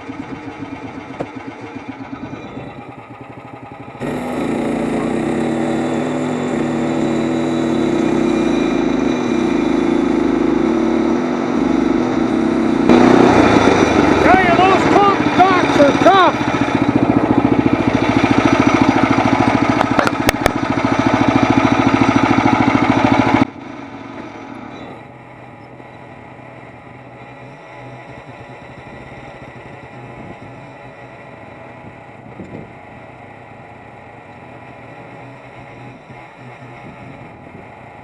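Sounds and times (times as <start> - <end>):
gasoline engine running: 0.0 - 38.0.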